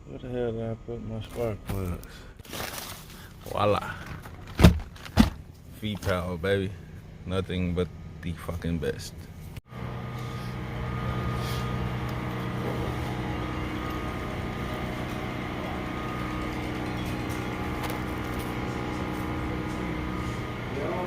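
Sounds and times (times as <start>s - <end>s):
vehicle engine idling: 3.1s - 21.0s.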